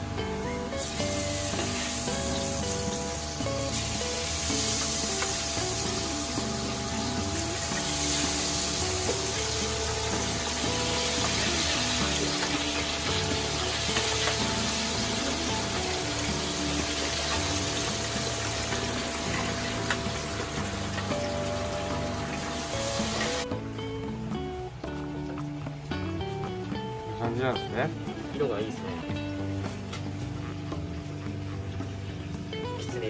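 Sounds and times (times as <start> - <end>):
oil sizzling and bubbling: 0.0 - 27.2
background music: 0.0 - 33.0.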